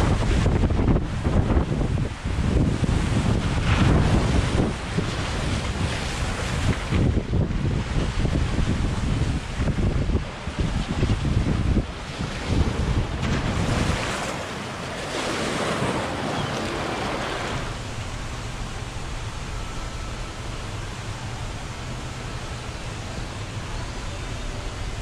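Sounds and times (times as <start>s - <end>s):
water rushing and splashing: 0.0s - 25.0s
wind buffeting microphone: 0.0s - 25.0s.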